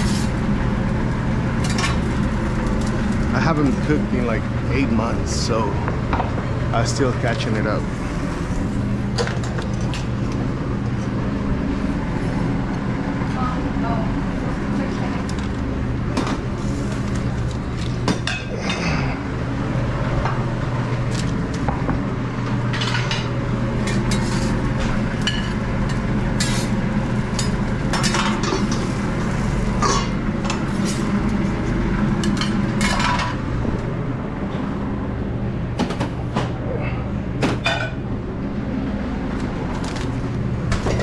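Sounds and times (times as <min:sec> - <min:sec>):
kitchen equipment hum: 0:00.0 - 0:41.0.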